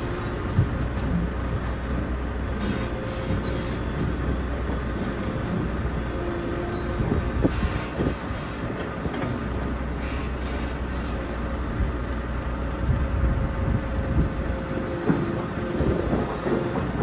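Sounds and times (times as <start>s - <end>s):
excavator diesel engine running: 0.0s - 17.0s
steel tracks crawling: 0.0s - 17.0s.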